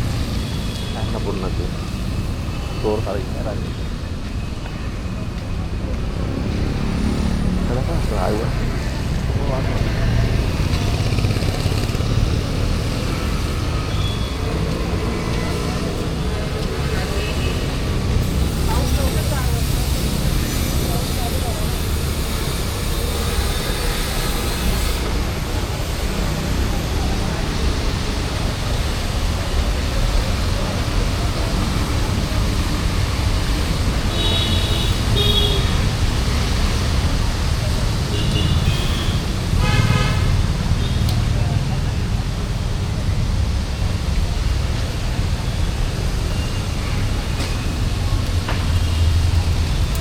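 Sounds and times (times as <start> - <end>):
even traffic hiss: 0.0 - 50.0
vehicle engines rumbling: 0.0 - 50.0.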